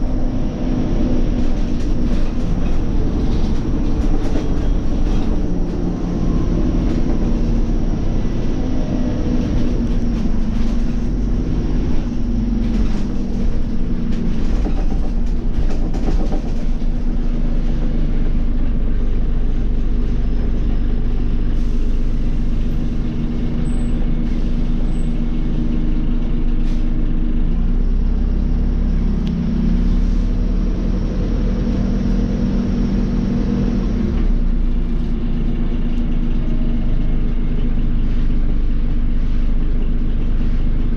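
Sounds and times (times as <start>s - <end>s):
bus diesel engine running: 0.0s - 40.9s
low rumble: 0.0s - 40.9s.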